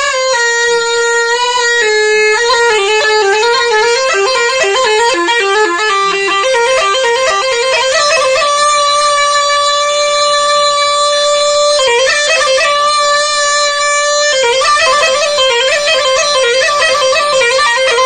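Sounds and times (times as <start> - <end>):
bagpipe playing fast melody: 0.0 - 18.0.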